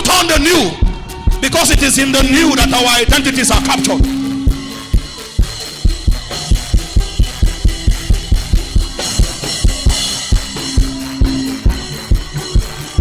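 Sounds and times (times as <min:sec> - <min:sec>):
drum kit fast beat: 0:00.0 - 0:13.0
cymbal wash: 0:01.4 - 0:12.9.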